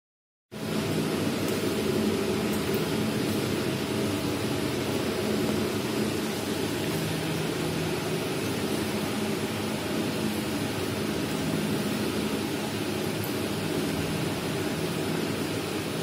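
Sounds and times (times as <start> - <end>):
mixer running with low hum: 0.5 - 16.0.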